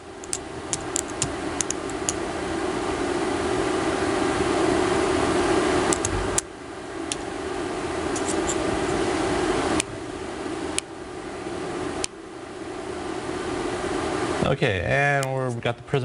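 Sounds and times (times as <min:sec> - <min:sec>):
fan-like machine hum: 0:00.0 - 0:16.0.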